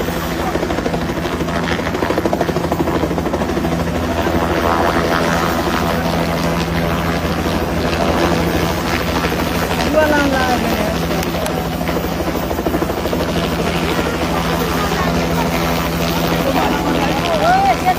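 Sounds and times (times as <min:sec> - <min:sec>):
helicopter engine: 0:00.0 - 0:17.9
helicopter rotor blades chopping: 0:00.0 - 0:17.9.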